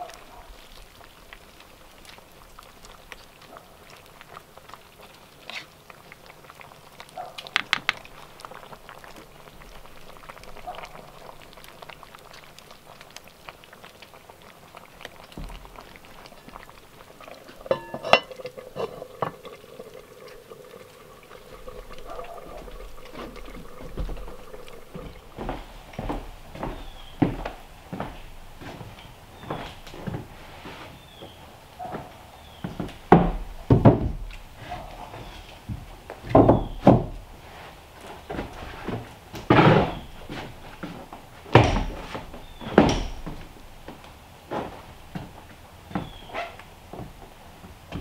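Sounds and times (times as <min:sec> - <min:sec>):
pot of liquid bubbling: 0:00.0 - 0:48.0.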